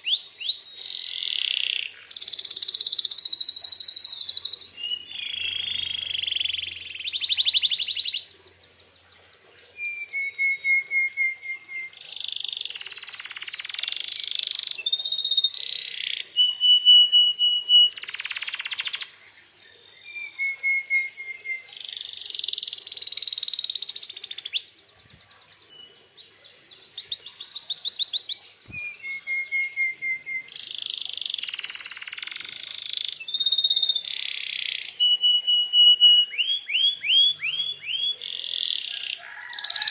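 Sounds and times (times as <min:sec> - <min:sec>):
canary singing: 0:00.0 - 0:19.2, 0:19.8 - 0:39.9.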